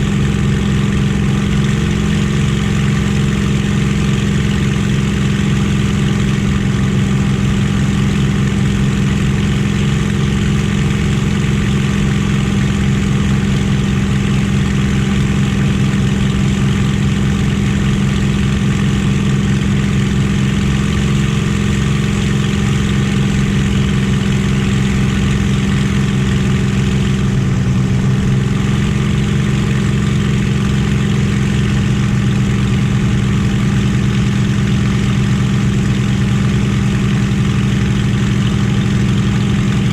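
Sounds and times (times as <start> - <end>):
aircraft engine running steadily: 0.0 - 39.9.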